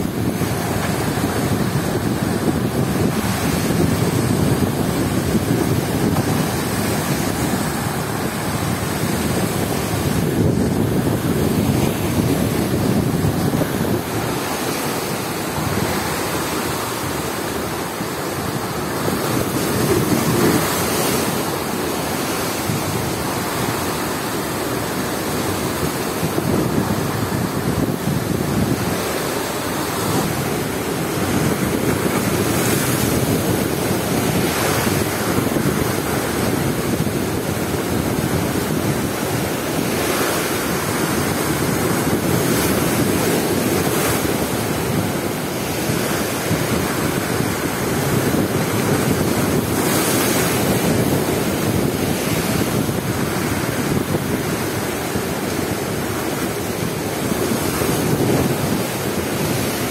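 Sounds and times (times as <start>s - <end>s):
surf breaking over stone: 0.0s - 55.0s
wind buffeting microphone: 0.0s - 59.9s.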